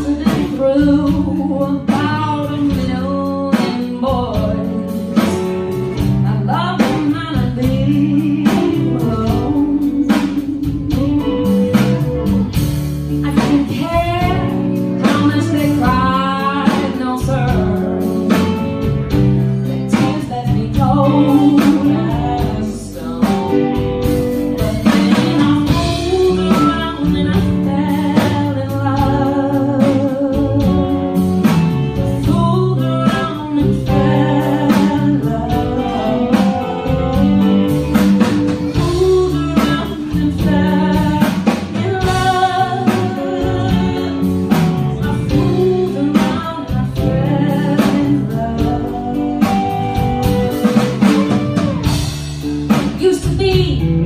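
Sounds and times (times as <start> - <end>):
woman singing with vibrato: 0.0 - 52.0, 52.7 - 54.0
drum kit: 0.0 - 54.0
electric bass: 0.0 - 54.0
electric guitar: 0.0 - 54.0.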